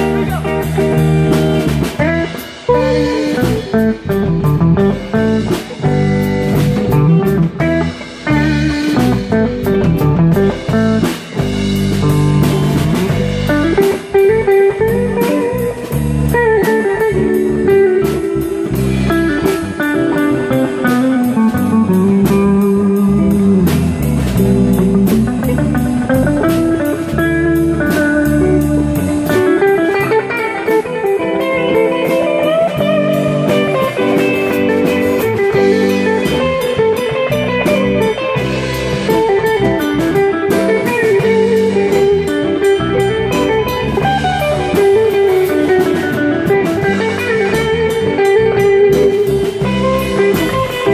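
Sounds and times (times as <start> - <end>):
lead guitar bending notes: 0.0 - 50.9
live rock band playing: 0.0 - 50.9.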